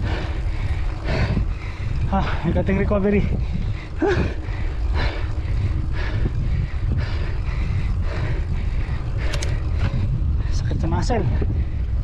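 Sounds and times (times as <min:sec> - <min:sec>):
rider breathing hard: 0:00.0 - 0:12.0
wind buffeting microphone: 0:00.0 - 0:12.0.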